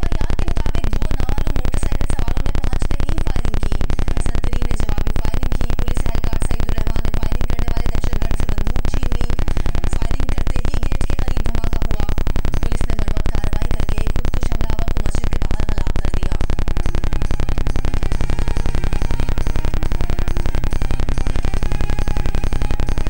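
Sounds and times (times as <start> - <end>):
muffled television broadcast: 0.0 - 23.0
rapid electrical buzzing: 0.0 - 23.0.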